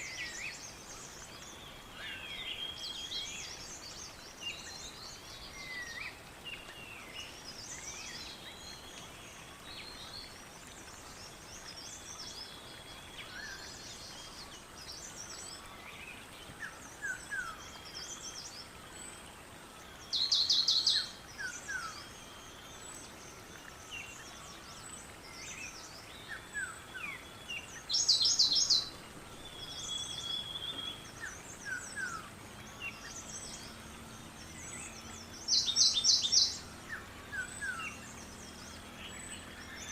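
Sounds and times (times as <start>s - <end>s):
faint steady hiss: 0.0s - 39.9s
songbirds singing and chirping: 0.0s - 39.9s.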